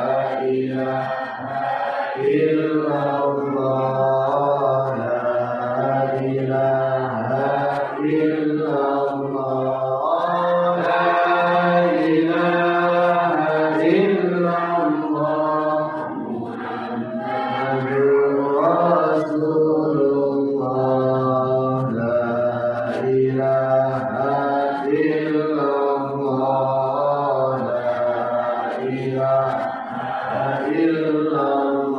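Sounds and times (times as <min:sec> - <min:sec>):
person chanting melodically: 0:00.0 - 0:31.9.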